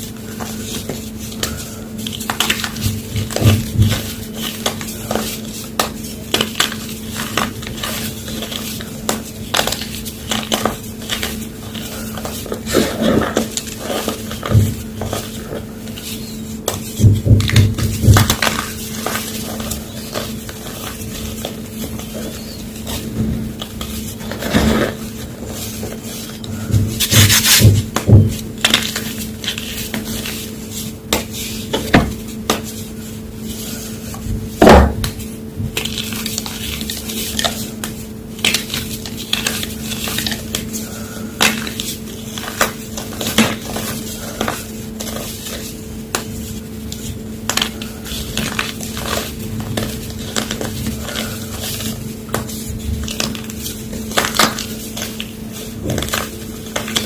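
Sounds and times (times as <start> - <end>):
faint steady hum: 0.0 - 57.0
chalk block crunching: 0.2 - 33.0, 33.6 - 57.0.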